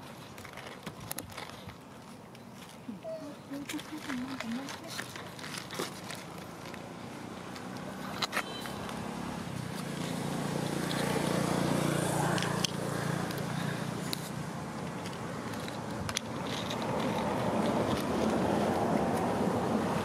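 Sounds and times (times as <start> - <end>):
vehicle engine humming: 2.8 - 20.0.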